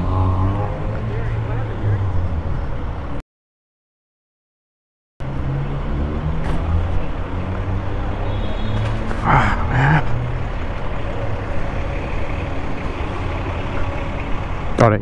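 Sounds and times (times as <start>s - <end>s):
diesel engines idling: 0.0s - 3.2s, 5.3s - 15.0s.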